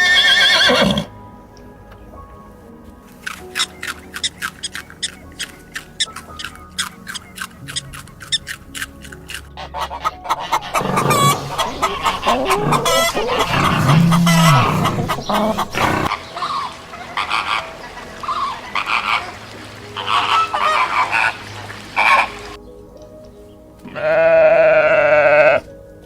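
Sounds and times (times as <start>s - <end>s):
birds calling and honking: 3.2s - 25.7s.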